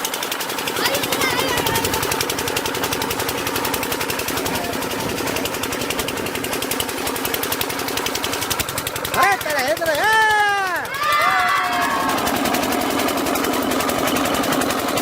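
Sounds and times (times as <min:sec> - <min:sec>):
engine running with pulses: 0:00.0 - 0:15.0.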